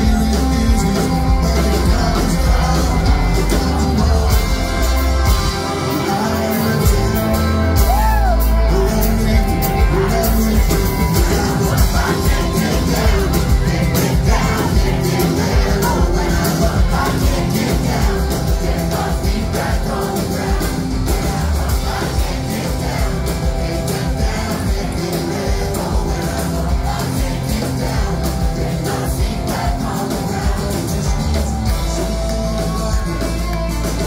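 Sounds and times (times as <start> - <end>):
bass guitar: 0.0 - 34.0
drums: 0.0 - 34.0
man singing lead: 0.0 - 34.0
strummed acoustic guitar: 0.0 - 34.0.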